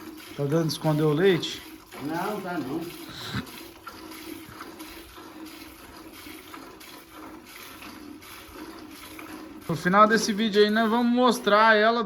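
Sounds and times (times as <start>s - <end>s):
milk squirting into a pail: 0.0s - 11.6s.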